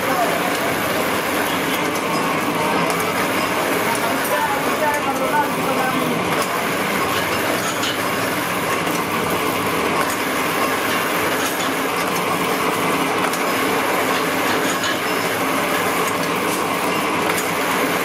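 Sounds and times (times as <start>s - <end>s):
tapping machine running: 0.0s - 18.0s.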